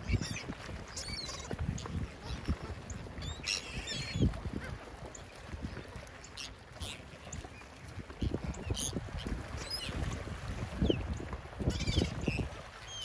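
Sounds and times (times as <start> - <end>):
gulls calling: 0.0 - 10.0, 10.8 - 13.0.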